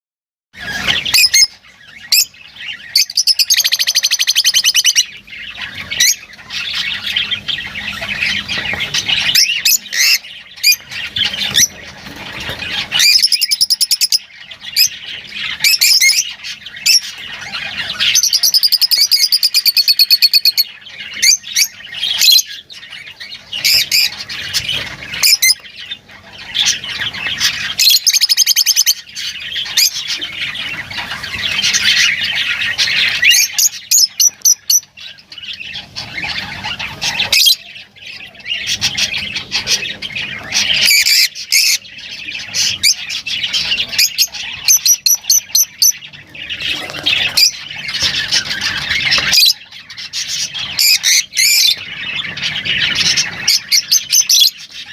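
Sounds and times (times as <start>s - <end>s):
lovebirds squawking and chirping: 0.6s - 54.9s.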